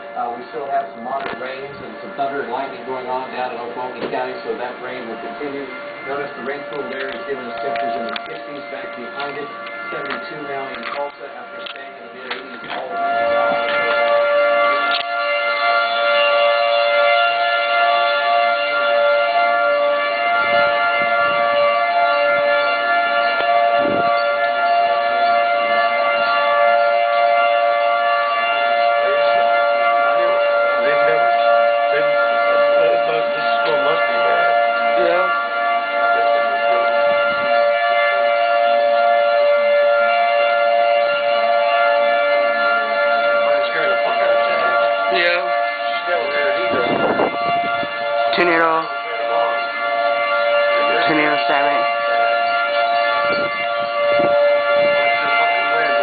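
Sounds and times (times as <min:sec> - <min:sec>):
warning siren steady tone: 0:00.0 - 0:56.0.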